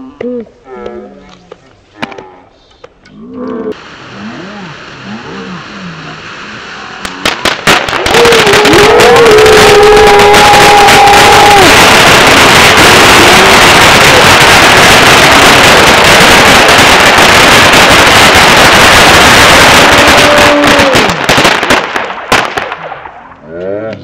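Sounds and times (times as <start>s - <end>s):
firework fountain hissing and crackling: 3.7s - 23.1s.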